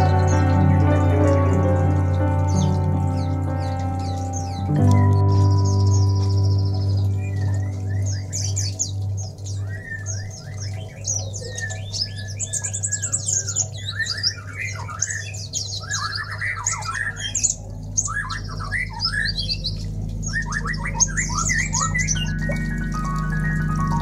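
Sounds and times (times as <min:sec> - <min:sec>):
low steady hum: 0:00.0 - 0:24.0
many birds chirping and squawking: 0:00.0 - 0:24.0.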